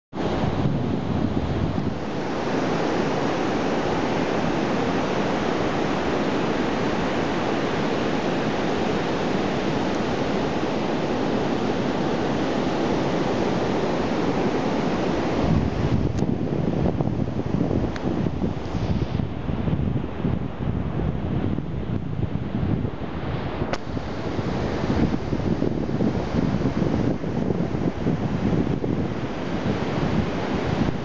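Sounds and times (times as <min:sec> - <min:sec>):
wind on microphone: 0:00.1 - 0:31.0
surf washing on beach: 0:00.2 - 0:31.0.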